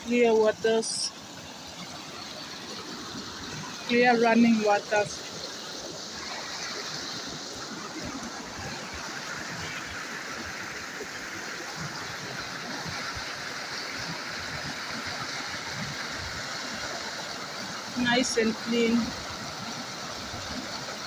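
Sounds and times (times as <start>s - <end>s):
river flowing over gravel: 0.0s - 21.0s.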